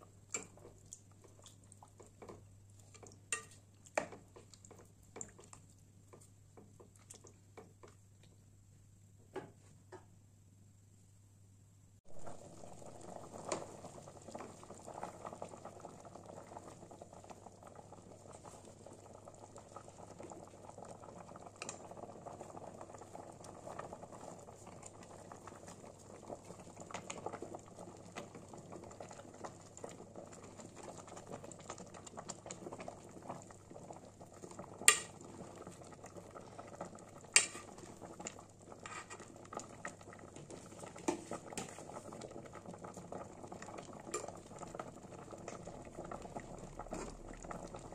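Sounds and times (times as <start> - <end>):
broth boiling and bubbling: 0.0 - 8.8, 12.0 - 47.9.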